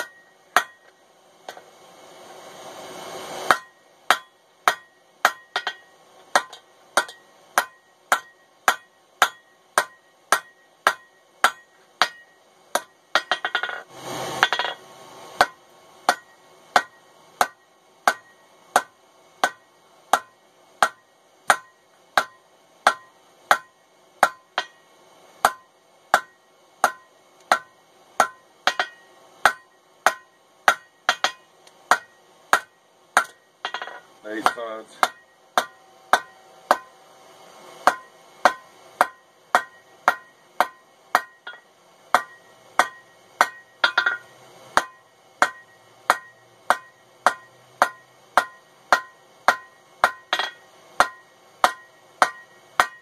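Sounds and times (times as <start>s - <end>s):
hammer striking hot steel on anvil: 0.0s - 1.7s, 3.2s - 37.0s, 37.8s - 53.0s.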